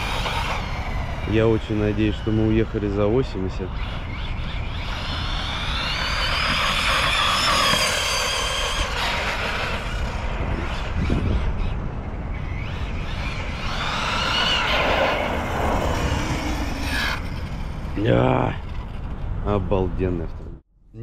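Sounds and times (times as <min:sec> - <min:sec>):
rc truck motor whining: 0:00.0 - 0:19.3.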